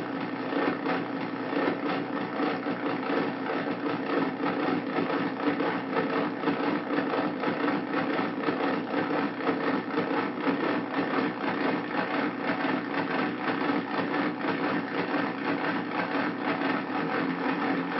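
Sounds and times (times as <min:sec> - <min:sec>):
synthesizer drone with rattling flutter: 0:00.0 - 0:17.9.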